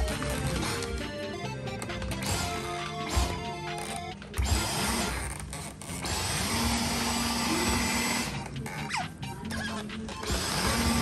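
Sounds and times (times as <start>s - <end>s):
stick vacuum cleaner running: 0.0s - 8.6s, 10.2s - 11.0s
background music: 0.0s - 11.0s.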